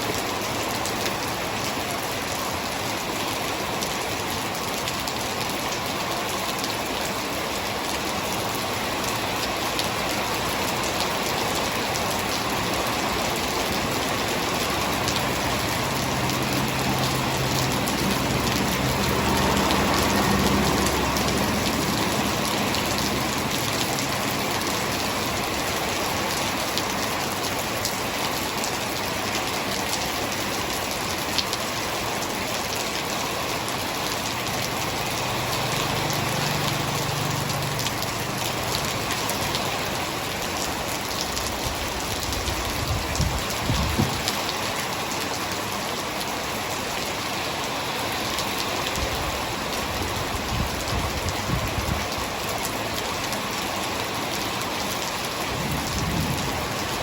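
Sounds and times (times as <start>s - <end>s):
hard rain falling: 0.0s - 57.0s.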